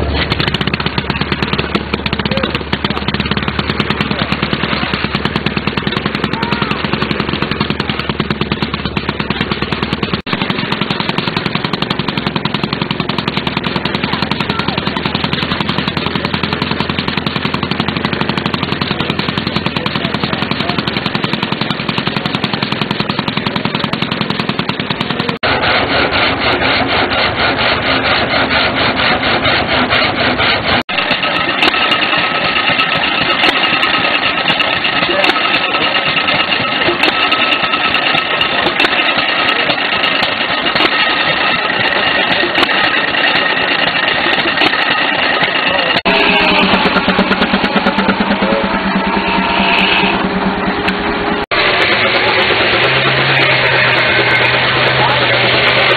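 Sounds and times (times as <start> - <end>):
sawmill engine clattering: 0.0 - 55.9.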